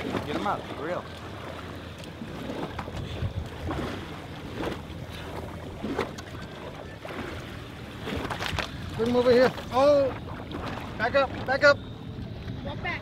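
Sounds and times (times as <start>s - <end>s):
short splashes: 0.0s - 12.6s
water lapping around boat: 0.0s - 13.0s
wind buffeting microphone: 0.0s - 13.0s.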